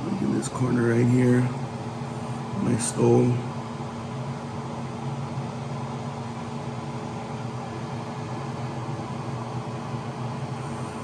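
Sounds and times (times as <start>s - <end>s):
machine hum with hiss: 0.0s - 11.0s.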